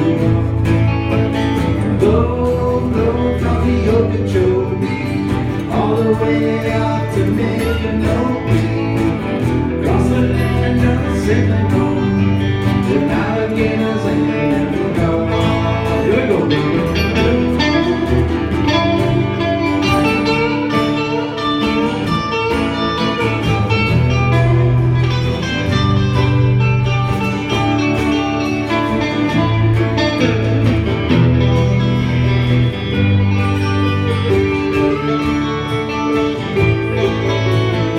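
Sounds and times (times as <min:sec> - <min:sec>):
country guitar: 0:00.0 - 0:37.9
steady bass line: 0:00.0 - 0:37.9.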